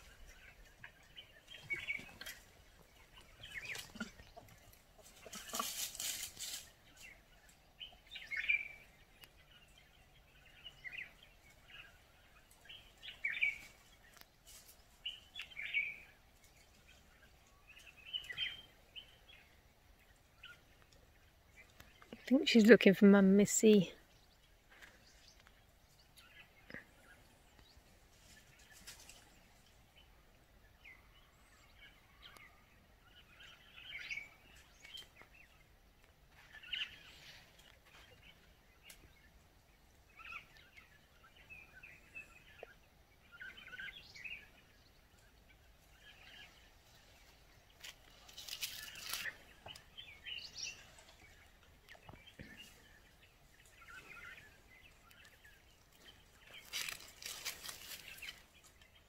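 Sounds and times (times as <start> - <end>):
faint bird chirps: 6.6 - 22.4, 23.6 - 59.0.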